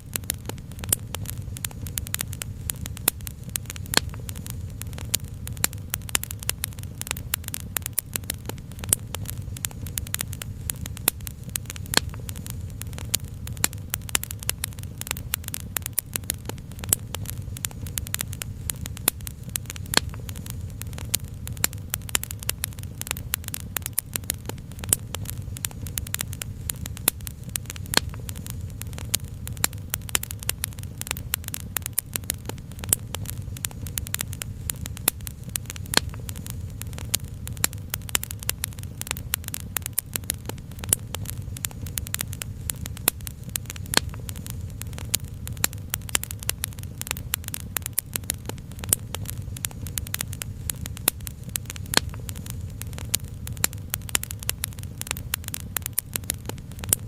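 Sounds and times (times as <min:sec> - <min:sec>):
steady low rumble: 0:00.0 - 0:57.0
wood fire crackling: 0:00.0 - 0:57.0.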